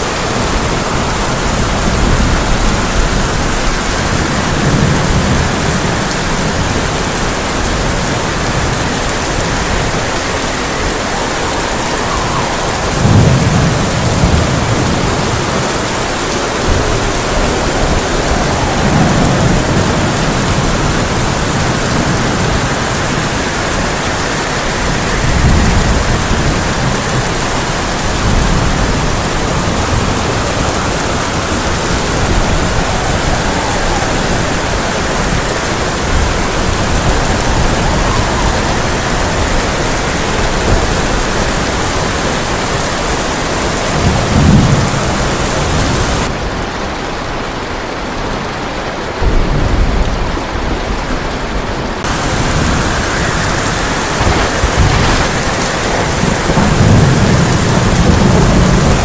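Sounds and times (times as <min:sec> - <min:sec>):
thunder rumbling: 0:00.0 - 0:46.8, 0:49.2 - 0:59.0
heavy rain on a tin roof: 0:00.0 - 0:59.0.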